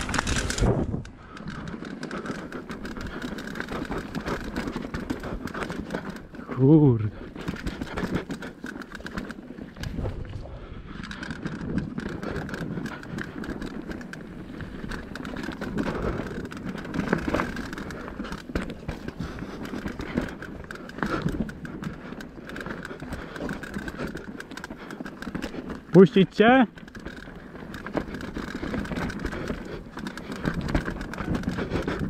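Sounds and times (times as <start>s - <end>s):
bike rattling and tyre noise: 0.0s - 32.0s.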